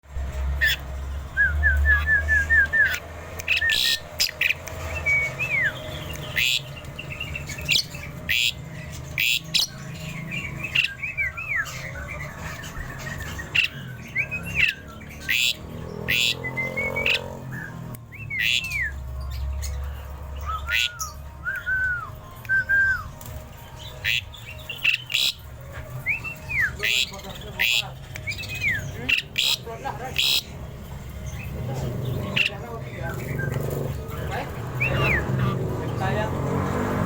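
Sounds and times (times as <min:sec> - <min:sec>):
harsh rasping bird calls: 0:00.5 - 0:01.0, 0:01.7 - 0:37.0
starling whistled song: 0:00.6 - 0:23.2, 0:23.8 - 0:30.5, 0:32.2 - 0:37.0.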